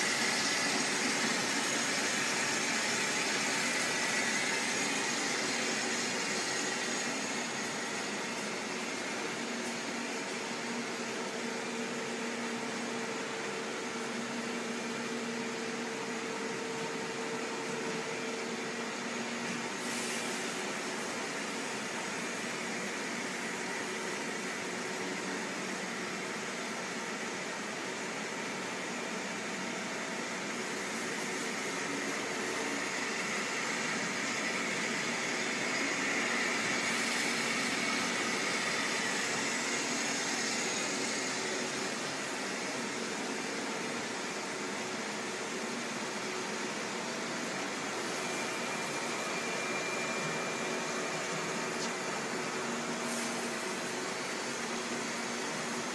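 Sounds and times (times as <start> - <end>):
machine hiss: 0.0 - 10.7, 18.4 - 25.5, 28.4 - 55.9.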